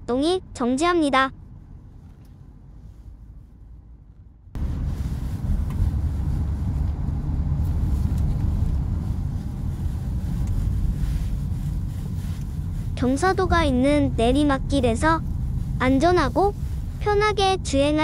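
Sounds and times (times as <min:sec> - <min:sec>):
in-cabin road rumble: 0:00.0 - 0:18.0.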